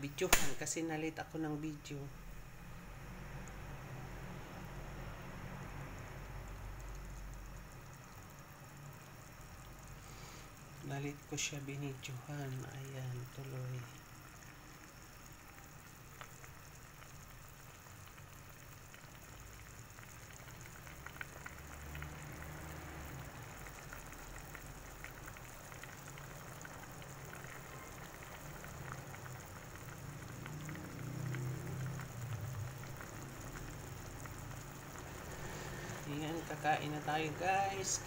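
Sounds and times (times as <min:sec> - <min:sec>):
broth boiling and bubbling: 0:00.0 - 0:38.0.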